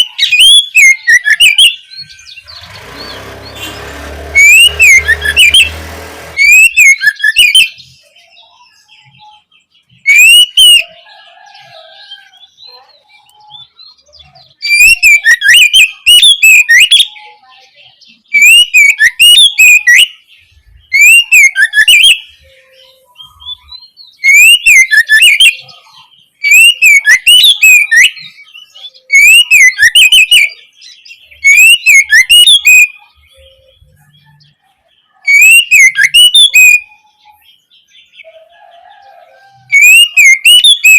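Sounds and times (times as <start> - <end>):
bird singing whistled phrases: 0.0 - 11.0, 11.6 - 34.6, 35.2 - 38.4, 39.3 - 40.9.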